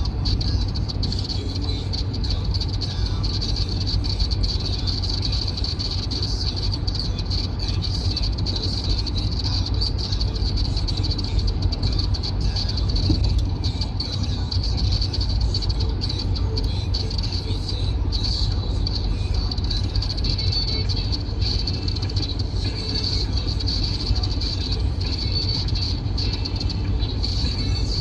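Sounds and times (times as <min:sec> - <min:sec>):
road and engine rumble in cabin: 0:00.0 - 0:28.0.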